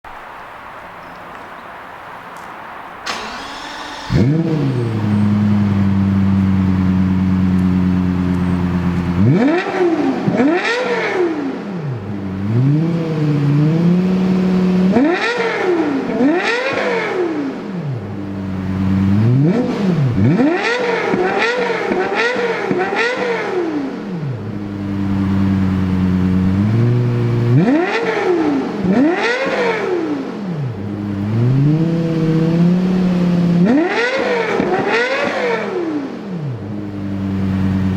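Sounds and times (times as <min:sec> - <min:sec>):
car engine starting and revving: 0:03.0 - 0:37.9.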